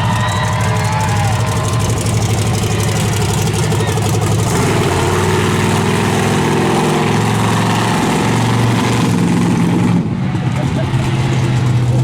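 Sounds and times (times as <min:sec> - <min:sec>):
monster truck engine running: 0:00.0 - 0:12.0.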